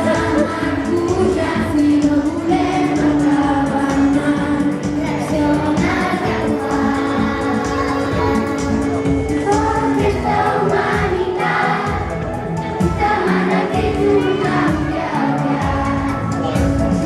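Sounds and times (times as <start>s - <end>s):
backing track with steady beat: 0.0s - 17.0s
group singing pop song: 0.0s - 17.0s.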